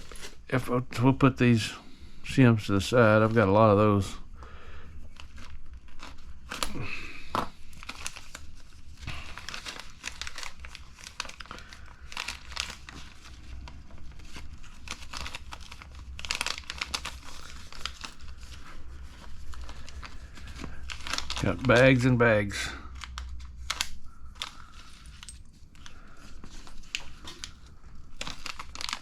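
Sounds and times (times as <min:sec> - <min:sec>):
plastic bags crinkling: 0:00.0 - 0:00.5, 0:02.9 - 0:29.0.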